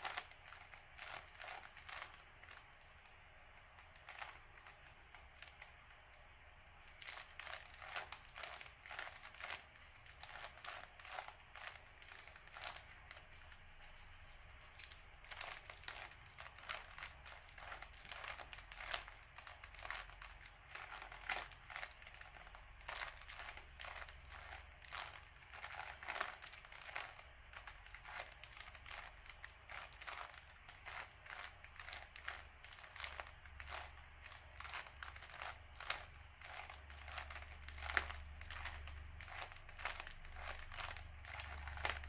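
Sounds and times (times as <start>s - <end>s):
puzzle cube clicking and rattling: 0.0s - 6.2s, 6.9s - 14.0s, 14.6s - 42.0s.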